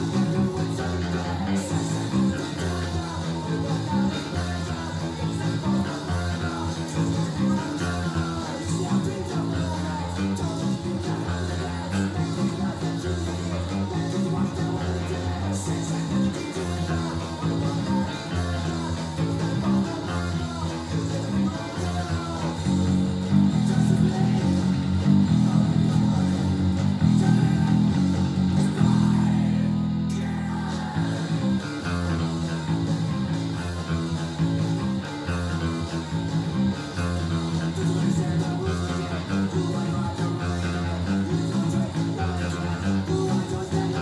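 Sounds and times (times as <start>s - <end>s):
fast electric bass line: 0.0s - 44.0s
punk rock music: 0.0s - 44.0s.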